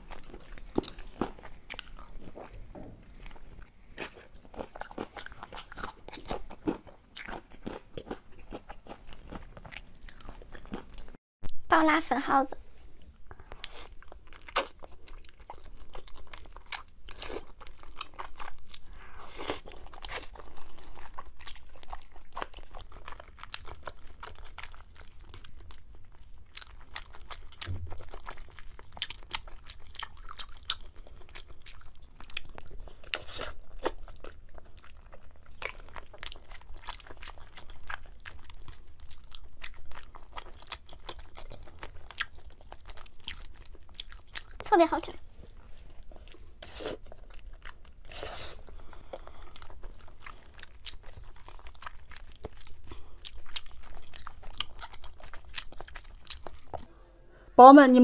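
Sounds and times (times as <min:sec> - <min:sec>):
person chewing crunchy food: 0:00.0 - 0:11.2, 0:13.0 - 0:56.9.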